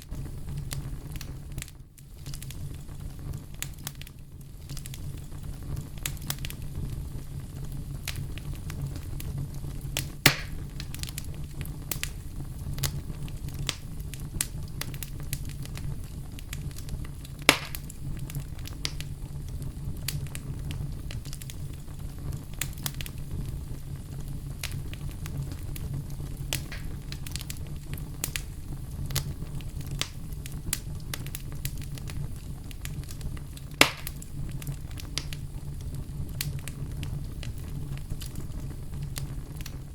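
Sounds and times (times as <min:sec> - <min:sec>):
burning wood crackling and popping: 0:00.0 - 0:39.9
low rumble of flame: 0:00.0 - 0:39.9.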